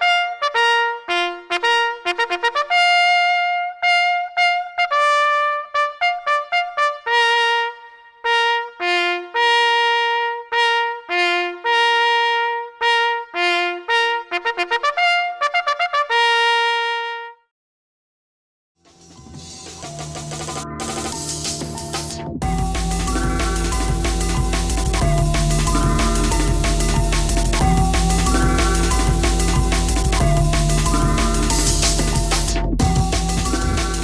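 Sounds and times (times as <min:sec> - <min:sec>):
music: 0:00.0 - 0:17.5, 0:18.8 - 0:34.0.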